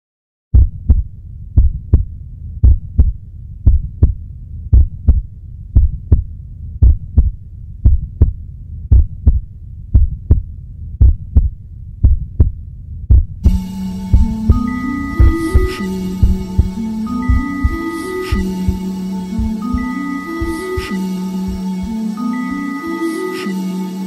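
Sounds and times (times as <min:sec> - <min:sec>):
heartbeat thumps: 0:00.6 - 0:22.2
low steady hum: 0:00.6 - 0:24.0.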